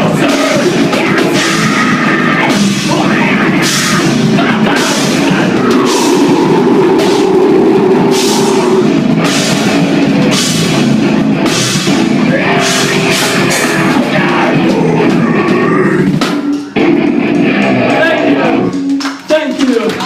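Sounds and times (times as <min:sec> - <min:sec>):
heavy rock band playing: 0:00.0 - 0:20.0.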